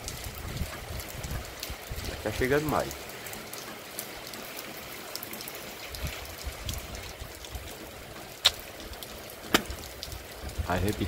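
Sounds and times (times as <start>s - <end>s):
steady rain: 0.0s - 11.0s
water drips ticking: 0.0s - 11.0s.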